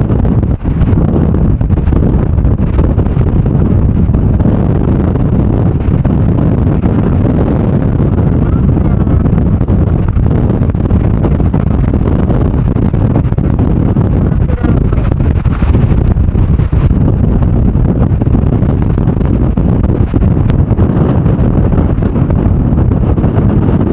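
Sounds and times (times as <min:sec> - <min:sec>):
strong wind buffeting microphone: 0:00.0 - 0:23.9.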